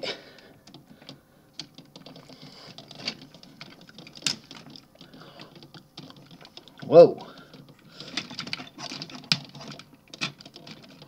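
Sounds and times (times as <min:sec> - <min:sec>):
plastic toy parts clicking: 0:00.6 - 0:11.0.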